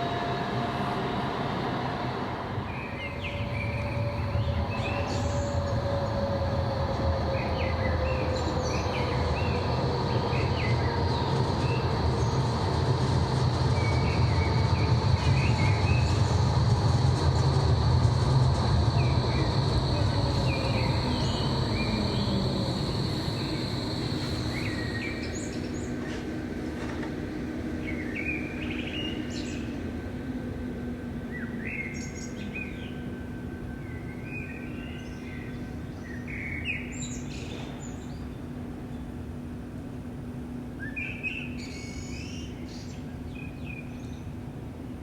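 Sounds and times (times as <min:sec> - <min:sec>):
tram rumbling past: 0:00.0 - 0:40.8.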